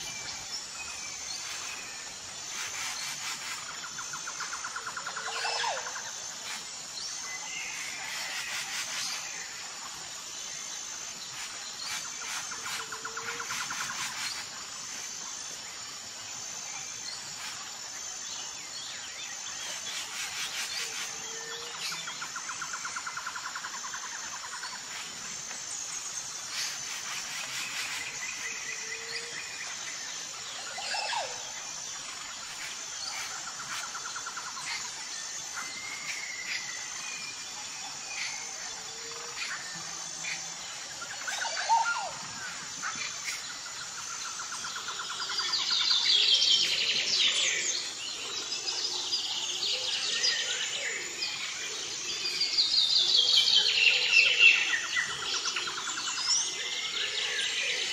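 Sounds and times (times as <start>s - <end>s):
insects trilling: 0.0s - 57.9s.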